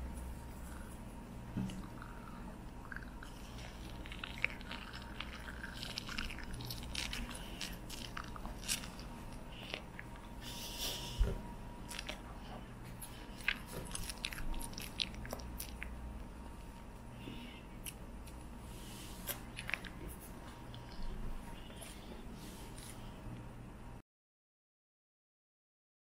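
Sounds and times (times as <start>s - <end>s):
chewing and biting soft bread: 0.4s - 23.2s.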